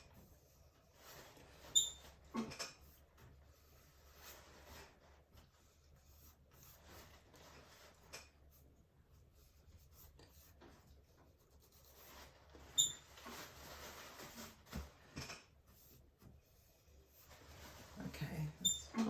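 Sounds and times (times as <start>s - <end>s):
paintbrush scrubbing on canvas: 0.1s - 15.0s, 15.6s - 19.0s.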